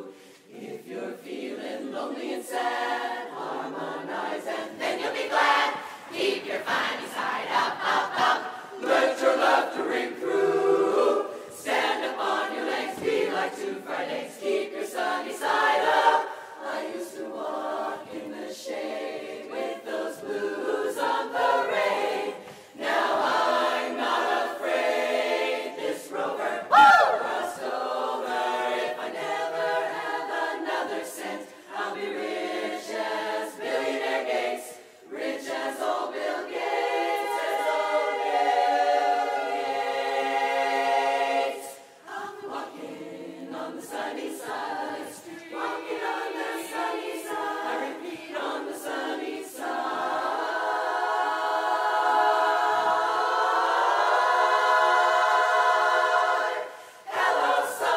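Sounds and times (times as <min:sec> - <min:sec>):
women's chorus singing a cappella: 0:00.0 - 0:57.9.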